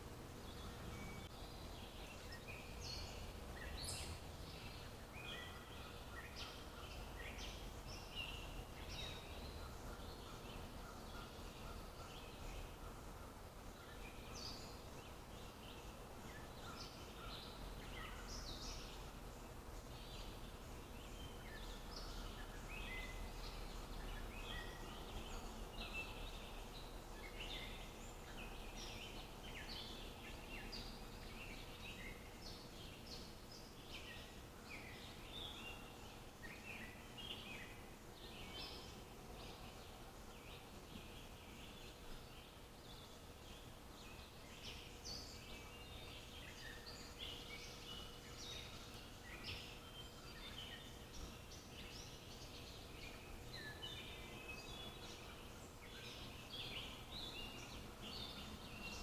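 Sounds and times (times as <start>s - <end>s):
outdoor background hiss: 0.0s - 59.0s
small birds chirping: 0.0s - 59.0s.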